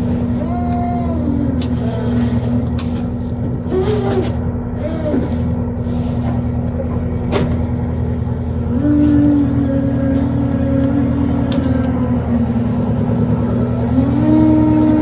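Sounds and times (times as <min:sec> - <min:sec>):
boat engine droning: 0:00.0 - 0:15.0
higher engine tone: 0:00.0 - 0:15.0.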